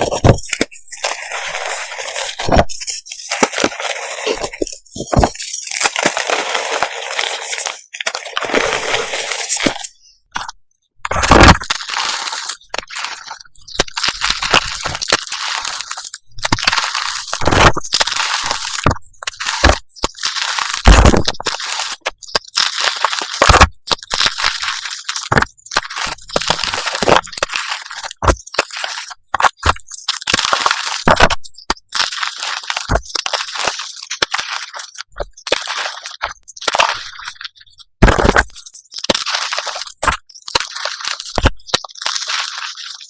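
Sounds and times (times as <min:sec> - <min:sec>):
chalk crushing and crunching: 0:00.0 - 0:43.0.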